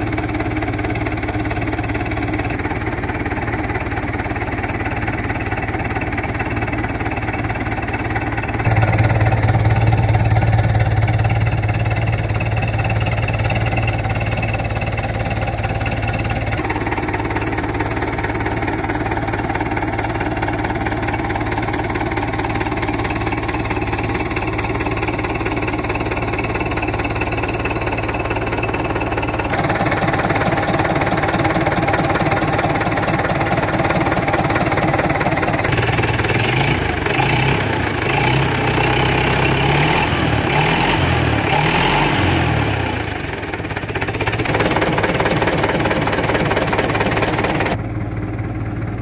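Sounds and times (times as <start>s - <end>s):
diesel tractor engine revving: 0.0s - 49.0s.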